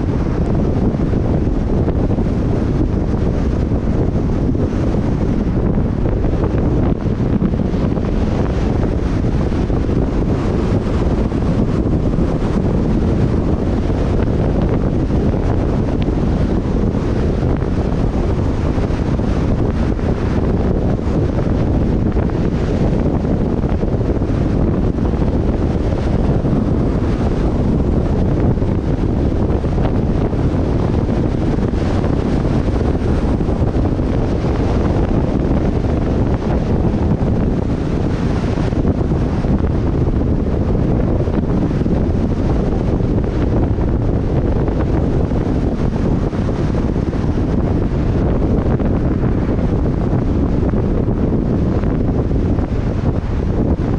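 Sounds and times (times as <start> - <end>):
car driving road noise: 0.0 - 53.9
wind rumble: 0.0 - 53.9.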